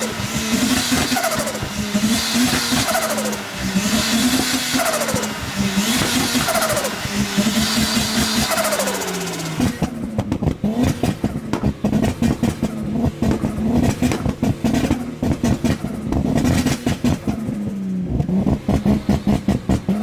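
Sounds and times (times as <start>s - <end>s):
car engine running: 0.0s - 20.0s
choppy pulsing exhaust: 0.0s - 20.0s.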